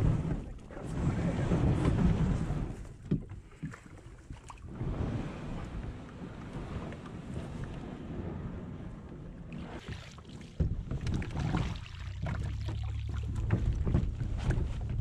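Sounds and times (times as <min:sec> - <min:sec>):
moving water rumble: 0:00.0 - 0:15.0
wind on microphone: 0:00.0 - 0:15.0.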